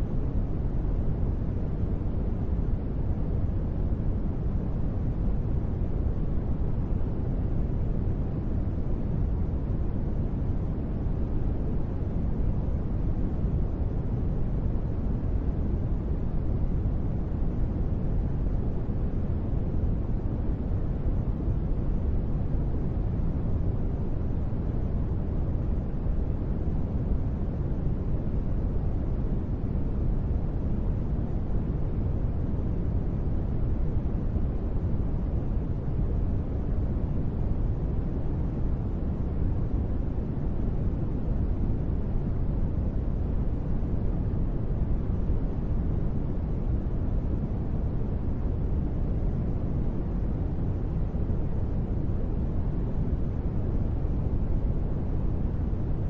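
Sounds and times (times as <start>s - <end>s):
rain-like white noise: 0.0s - 56.0s.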